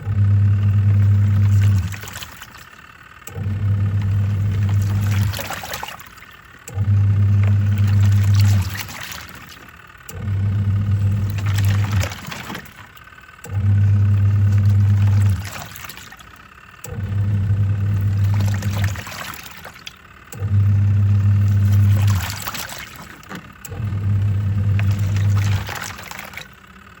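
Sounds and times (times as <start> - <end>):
washing machine motor humming: 0.0 - 27.0
water sloshing: 1.0 - 2.8, 3.4 - 9.8, 11.0 - 16.5, 17.1 - 20.6, 21.4 - 26.7.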